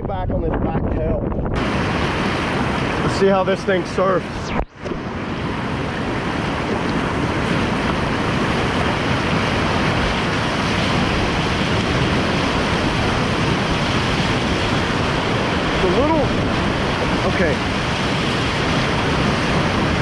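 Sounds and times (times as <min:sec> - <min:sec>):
whitewater rushing: 0:01.6 - 0:20.0.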